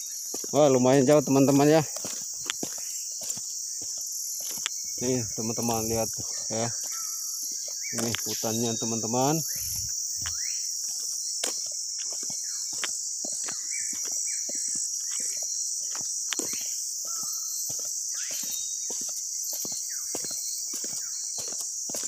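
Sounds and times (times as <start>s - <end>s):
footsteps on forest path: 0.0s - 22.0s
insects buzzing: 0.0s - 22.0s.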